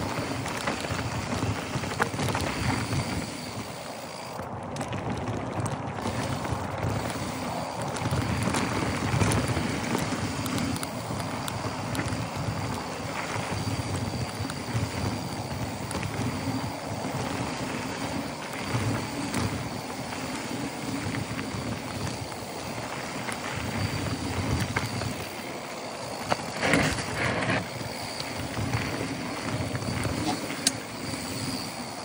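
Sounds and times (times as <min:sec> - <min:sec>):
tyres crunching over gravel: 0:00.0 - 0:31.7
bike rattling over bumps: 0:00.0 - 0:32.0.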